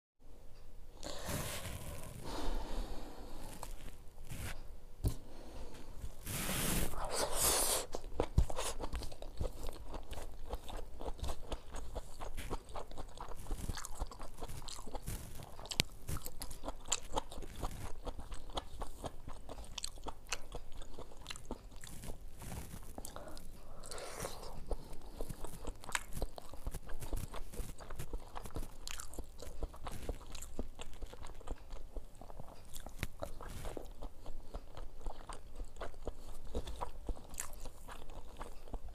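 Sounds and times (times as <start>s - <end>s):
chewing and crunching food: 1.0s - 38.9s.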